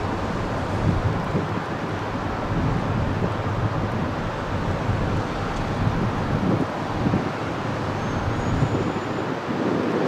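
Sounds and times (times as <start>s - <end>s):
jet engines taxiing: 0.0s - 10.0s
wind rumbling on microphone: 0.0s - 10.0s.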